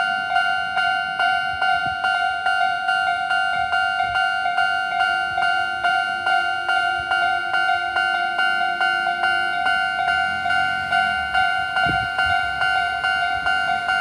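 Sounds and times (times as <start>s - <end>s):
level crossing bell clanging: 0.0s - 14.0s.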